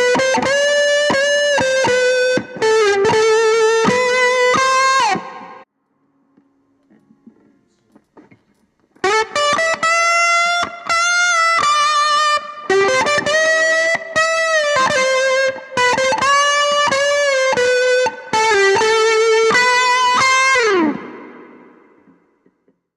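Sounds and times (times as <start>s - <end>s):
overdriven electric guitar lead: 0.0s - 5.6s, 9.0s - 22.3s.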